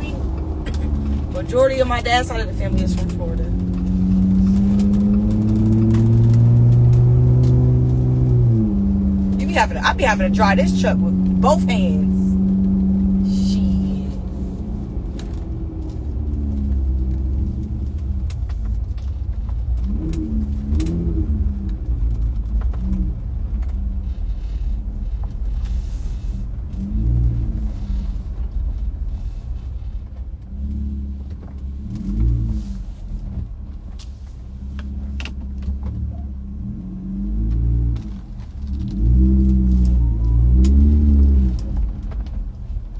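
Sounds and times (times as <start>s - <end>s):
truck engine and road rumble: 0.0s - 42.9s.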